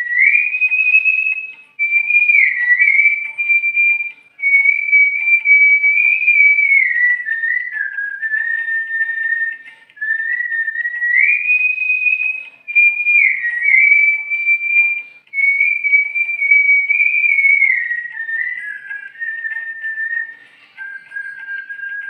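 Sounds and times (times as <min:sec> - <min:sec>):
man whistling a melody: 0:00.0 - 0:22.0.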